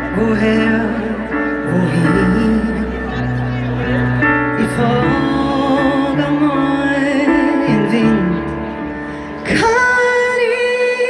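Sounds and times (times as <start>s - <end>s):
keyboard and bass chords: 0.0s - 11.0s.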